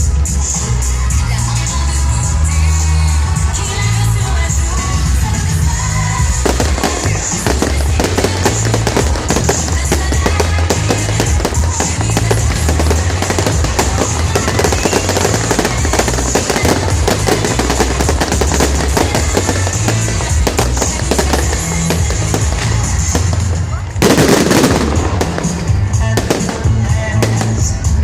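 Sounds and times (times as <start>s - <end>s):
fireworks bangs and crackles: 0.0s - 28.0s
loud music with bass line: 0.0s - 28.0s.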